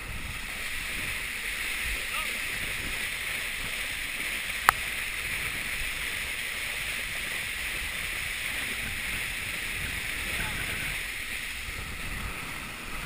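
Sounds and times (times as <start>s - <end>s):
boat wake churning: 0.0s - 13.0s.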